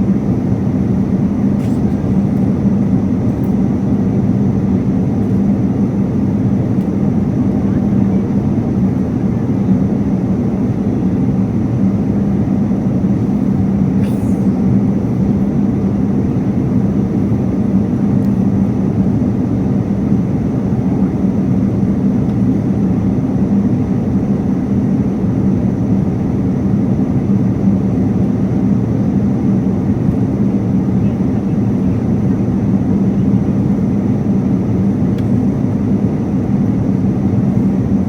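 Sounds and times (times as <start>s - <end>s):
airliner cabin engine rush: 0.0s - 38.0s
constant low hum: 0.0s - 38.0s.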